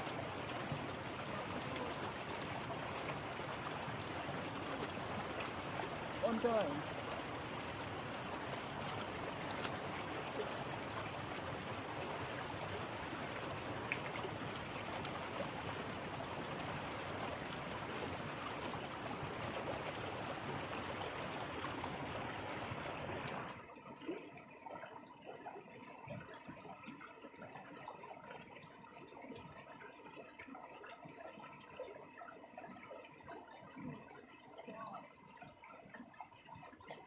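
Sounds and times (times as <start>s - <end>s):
flowing stream water: 0.0s - 37.0s.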